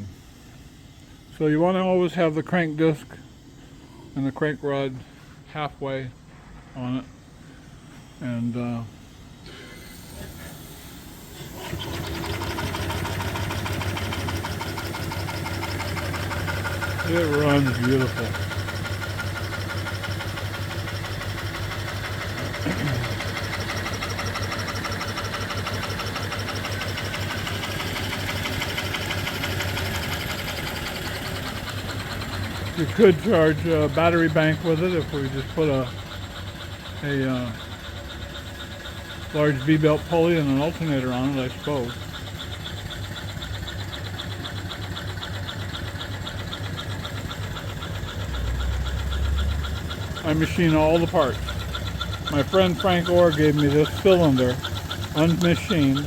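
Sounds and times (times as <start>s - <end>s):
steam engine running: 0.0s - 56.0s.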